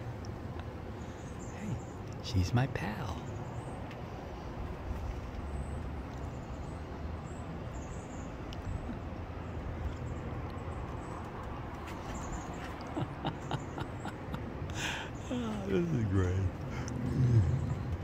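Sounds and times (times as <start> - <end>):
low outdoor background rumble: 0.0 - 18.0.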